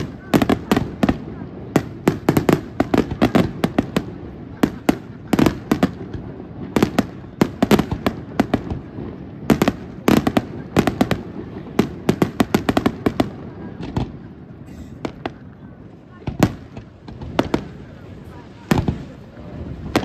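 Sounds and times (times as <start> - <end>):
fireworks bursting with rumble: 0.0 - 20.0.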